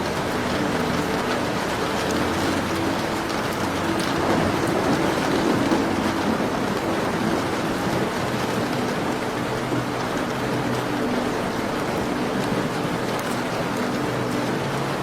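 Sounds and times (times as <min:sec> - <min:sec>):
fireplace crackles: 0:00.0 - 0:15.0
steady rain falling: 0:00.0 - 0:15.0.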